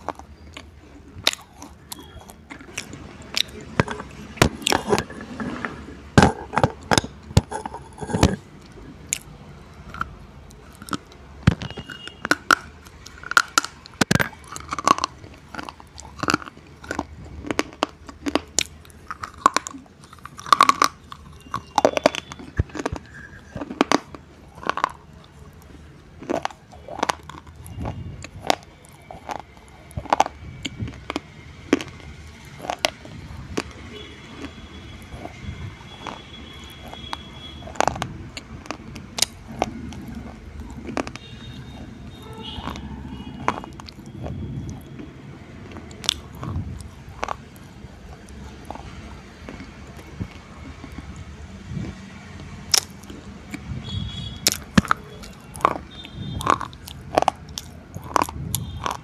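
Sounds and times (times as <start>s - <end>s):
crunching bites of slate pencils: 0.0s - 59.0s.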